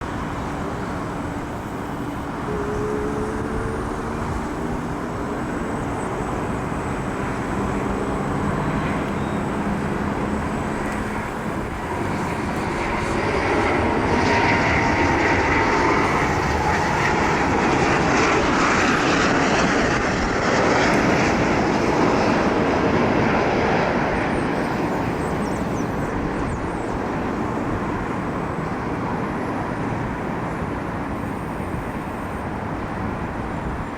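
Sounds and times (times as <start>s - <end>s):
jet engines landing: 0.0s - 33.9s.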